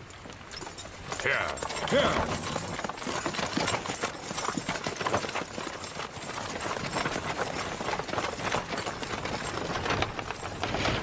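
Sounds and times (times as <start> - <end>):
hooves clip-clopping on dirt: 0.0 - 11.0
wooden wheels rattling: 0.1 - 11.0.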